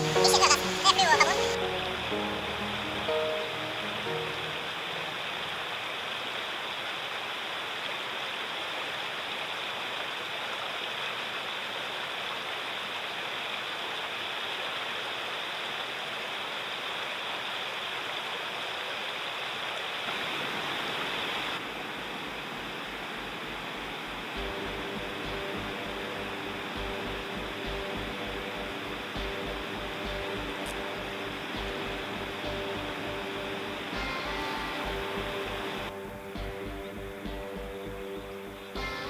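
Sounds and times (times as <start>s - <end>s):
river flowing over stones: 0.0s - 39.0s.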